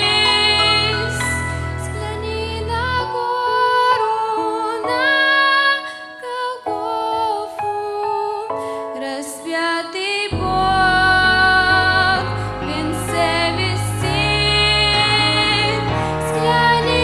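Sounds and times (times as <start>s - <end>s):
slow gentle live music: 0.0s - 17.0s.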